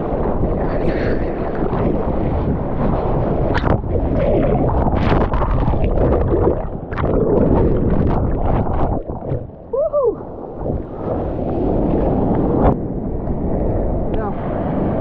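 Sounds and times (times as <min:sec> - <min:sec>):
surf whitewater rushing: 0:00.0 - 0:15.0
water buffeting microphone: 0:00.0 - 0:15.0.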